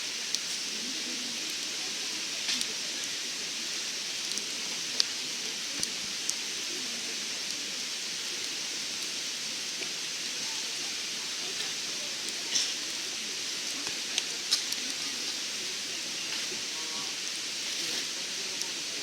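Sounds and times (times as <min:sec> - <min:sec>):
wood fire hissing and popping: 0:00.0 - 0:19.0.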